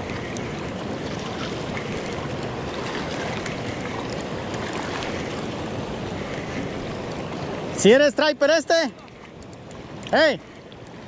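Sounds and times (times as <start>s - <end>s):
river water lapping over rocks: 0.0s - 11.0s.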